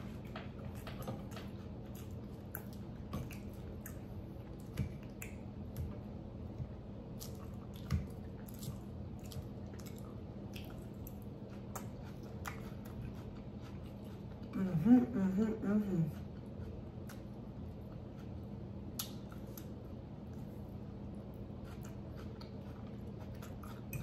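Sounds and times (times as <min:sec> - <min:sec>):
steady low hum: 0:00.0 - 0:24.0
wet chewing clicks and squishes: 0:00.2 - 0:14.5, 0:16.5 - 0:20.6, 0:21.3 - 0:24.0.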